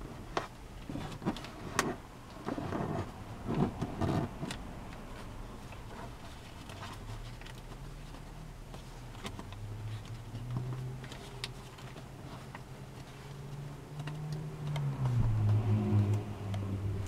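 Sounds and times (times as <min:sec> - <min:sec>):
low steady hum: 0:00.0 - 0:17.0
paper rustling and crackling: 0:00.8 - 0:15.6.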